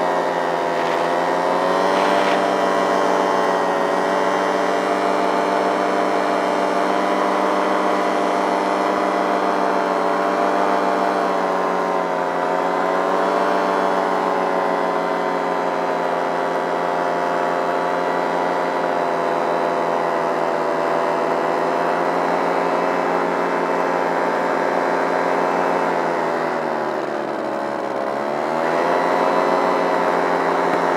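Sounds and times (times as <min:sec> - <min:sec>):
paramotor engine running: 0:00.0 - 0:30.9.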